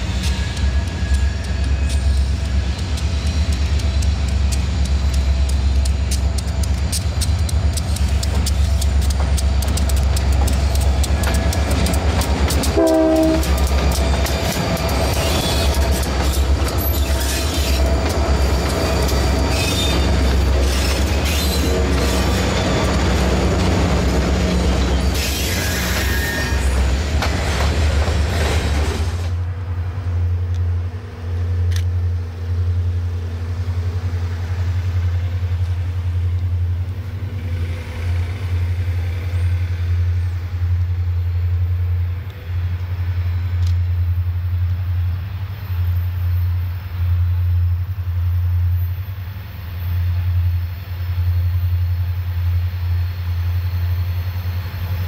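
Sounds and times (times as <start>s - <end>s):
diesel locomotives low rumble: 0.0s - 55.0s.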